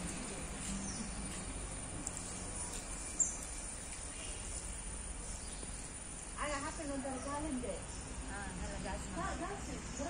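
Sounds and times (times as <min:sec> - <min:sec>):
low hiss and rumble: 0:00.0 - 0:10.0.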